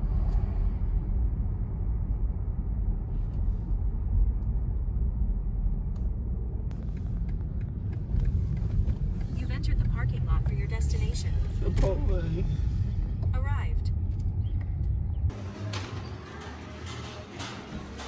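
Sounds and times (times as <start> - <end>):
car road rumble: 0.0 - 18.0.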